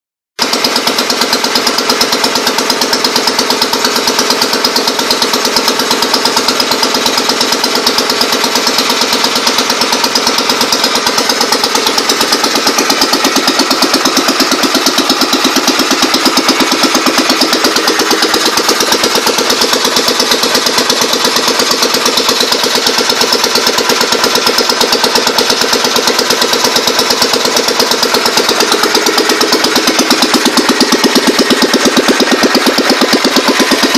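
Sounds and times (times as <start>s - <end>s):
compressor engine running: 0.4s - 33.9s.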